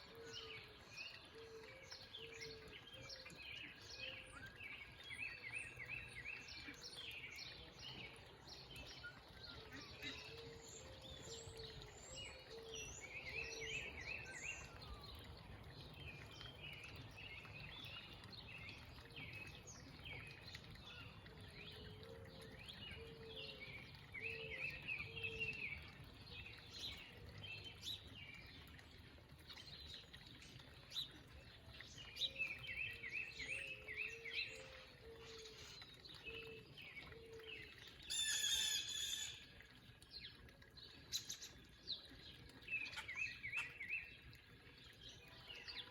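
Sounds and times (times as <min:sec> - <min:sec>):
birds chirping and singing: 0:00.0 - 0:45.9.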